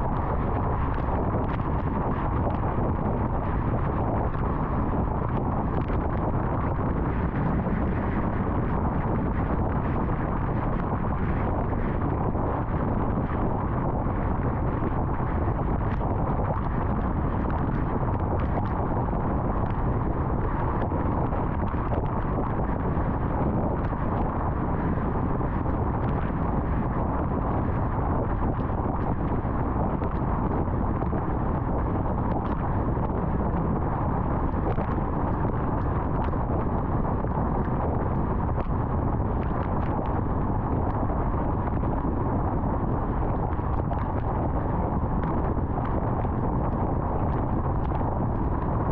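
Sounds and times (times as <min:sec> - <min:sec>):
tyre and wind noise: 0:00.0 - 0:48.9.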